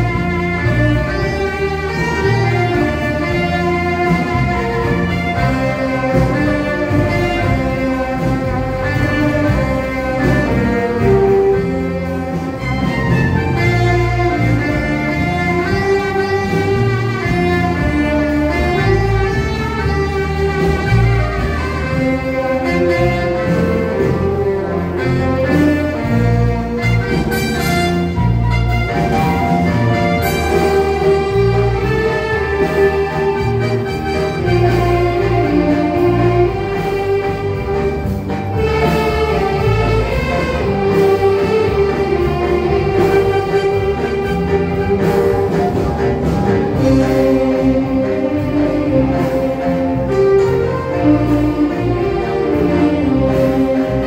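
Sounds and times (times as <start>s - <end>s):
instrumental music with beat: 0.0s - 54.0s
pulsing bass line: 0.0s - 54.0s.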